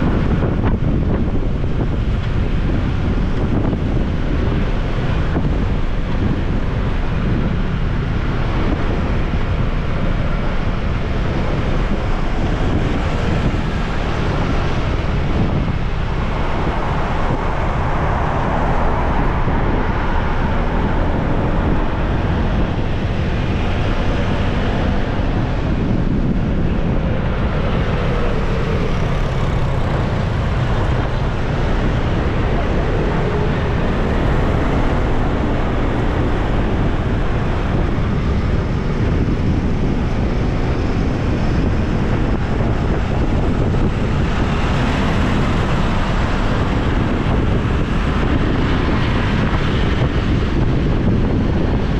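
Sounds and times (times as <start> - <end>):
road and traffic noise: 0.0 - 51.9
wind rushing over microphone: 0.0 - 51.9.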